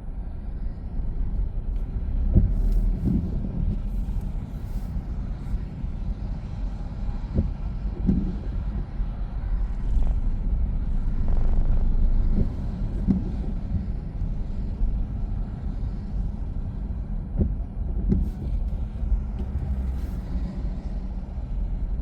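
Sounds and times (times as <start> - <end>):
car engine rumble: 0.0 - 22.0
road noise: 0.0 - 22.0.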